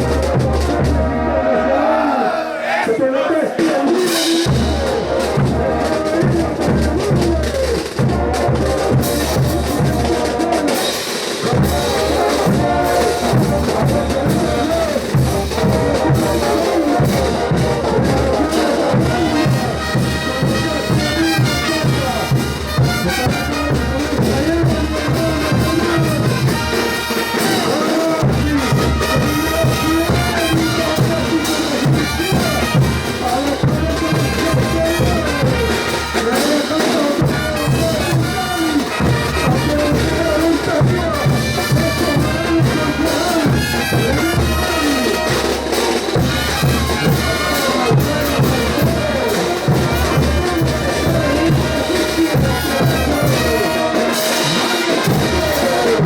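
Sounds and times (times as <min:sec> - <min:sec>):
steady drum beat: 0:00.0 - 0:01.2, 0:01.8 - 0:56.0
brass band playing dance music: 0:00.0 - 0:56.0.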